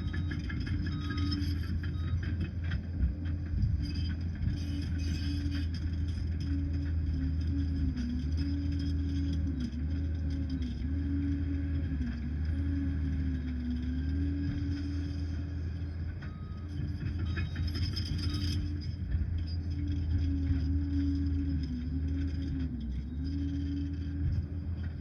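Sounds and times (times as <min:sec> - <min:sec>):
dozer diesel engine droning: 0:00.0 - 0:25.0
metallic clatter and squeaks: 0:00.0 - 0:25.0.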